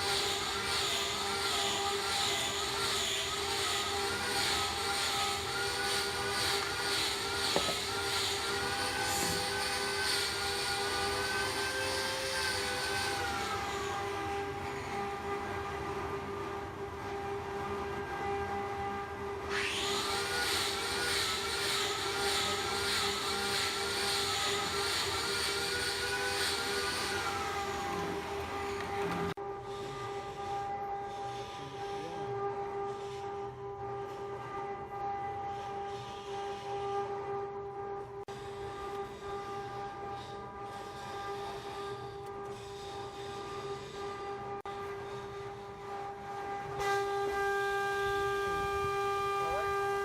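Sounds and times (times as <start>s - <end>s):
wood lathe whine and hiss: 0.0s - 50.0s.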